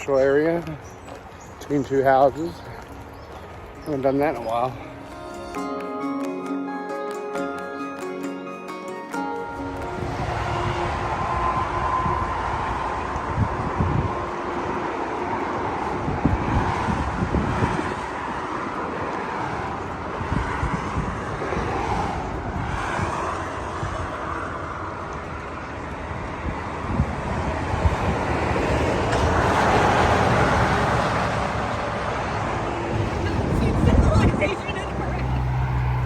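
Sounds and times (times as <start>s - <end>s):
vehicles passing: 0.0s - 36.0s.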